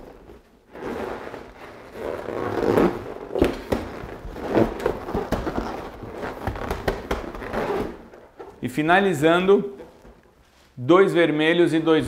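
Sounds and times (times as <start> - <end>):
balloons rubbing and squeaking: 0.0 - 10.5.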